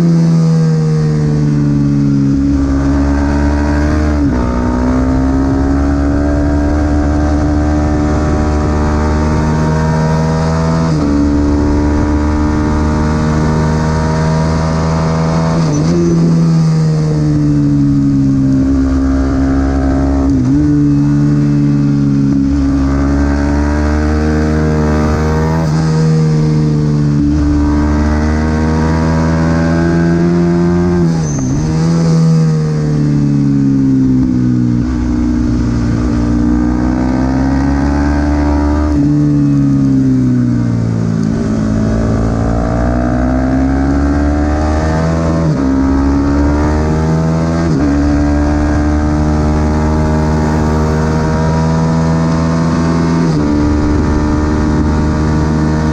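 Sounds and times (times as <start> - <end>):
motorcycle engine at high revs: 0.0 - 55.9.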